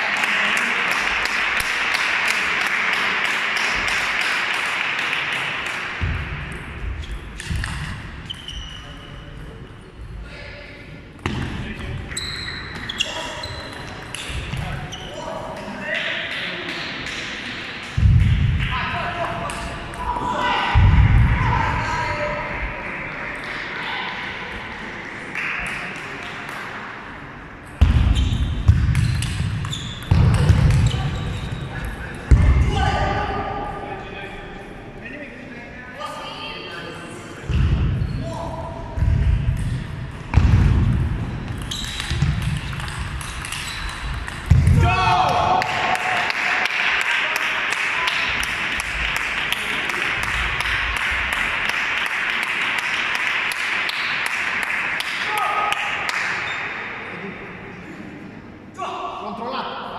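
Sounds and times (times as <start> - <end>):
rushing hall noise: 0.0 - 59.9.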